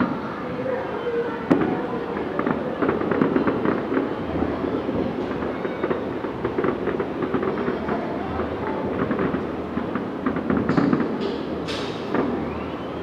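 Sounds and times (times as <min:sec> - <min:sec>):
distant fireworks crackling: 0:00.0 - 0:13.0
sharp firework bang: 0:01.5 - 0:12.6.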